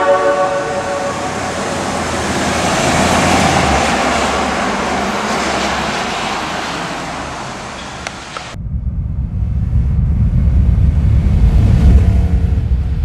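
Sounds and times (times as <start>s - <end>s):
train passing rumble: 0.0s - 13.0s.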